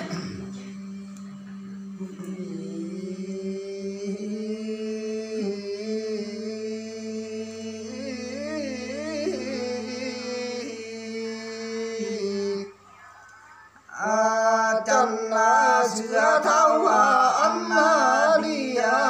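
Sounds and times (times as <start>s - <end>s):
men singing a slow chant: 1.9s - 12.7s, 13.9s - 19.0s.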